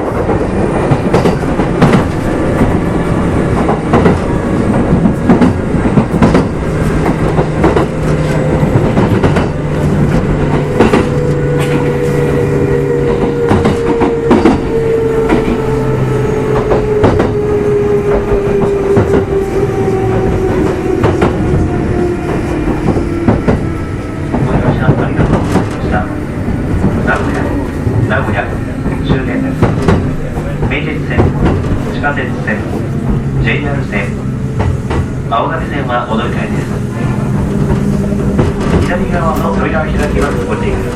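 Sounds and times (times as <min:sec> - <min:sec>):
train wheels clicking over rail joints: 0:00.0 - 0:12.4, 0:13.0 - 0:15.8, 0:16.4 - 0:40.9
train rumble: 0:00.0 - 0:40.9.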